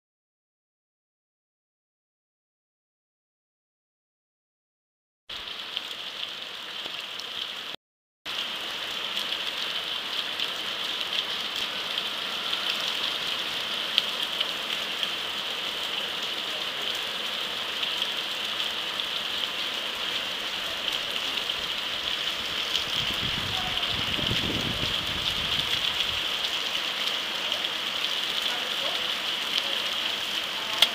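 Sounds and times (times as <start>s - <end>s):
torrential rain pouring: 5.3s - 30.9s.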